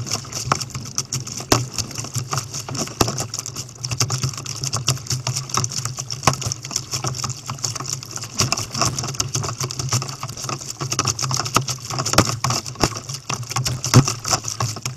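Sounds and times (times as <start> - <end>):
paddle blades dipping in water: 0.0 - 14.9
water splashing against kayak hull: 0.0 - 14.9.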